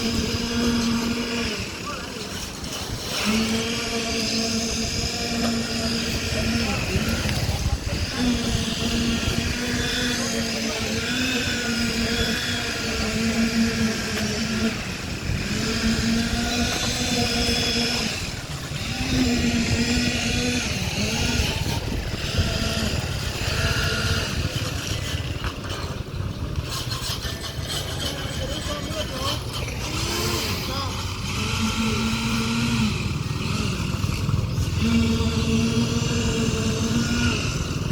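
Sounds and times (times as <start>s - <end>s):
construction machinery rumbling: 0.0s - 37.9s
steady pitched whine: 0.0s - 37.9s.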